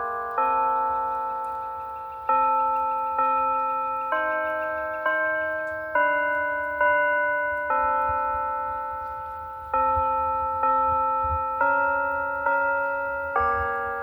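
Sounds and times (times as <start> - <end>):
church bells ringing a slow tune: 0.0 - 14.0.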